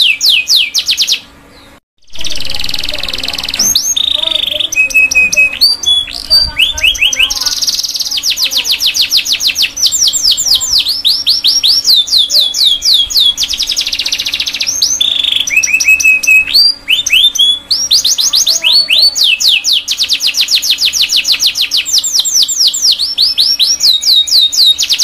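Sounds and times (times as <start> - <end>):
canary singing: 0.0 - 25.0.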